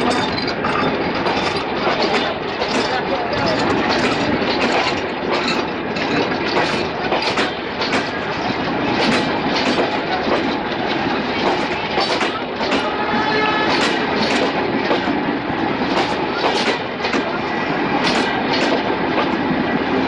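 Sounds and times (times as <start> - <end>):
train passing at speed: 0.0 - 20.0
train wheels clacking over rail joints: 0.0 - 20.0.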